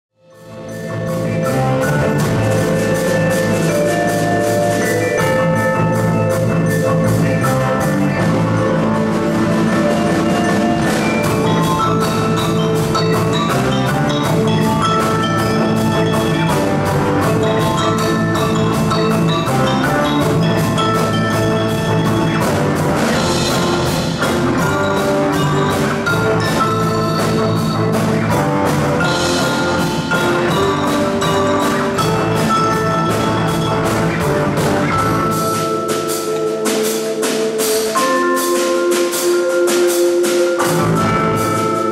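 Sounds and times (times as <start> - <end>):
marimbas playing: 0.2 - 41.9
drum kit: 0.3 - 41.9
electric bass: 0.5 - 35.7, 40.6 - 41.9.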